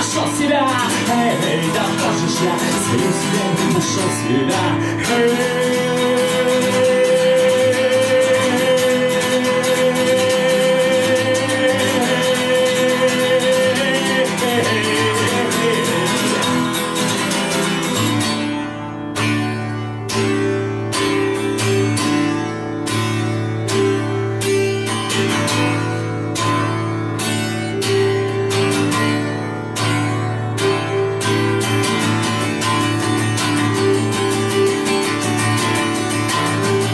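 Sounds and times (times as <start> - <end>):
acoustic guitar strumming: 0.0 - 36.9.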